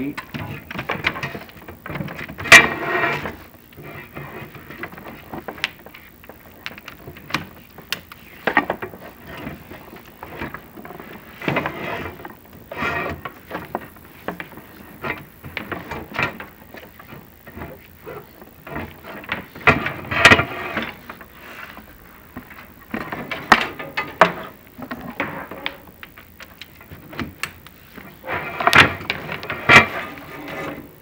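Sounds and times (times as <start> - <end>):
push rods scraping in flue: 0.2 - 26.1, 26.8 - 31.0.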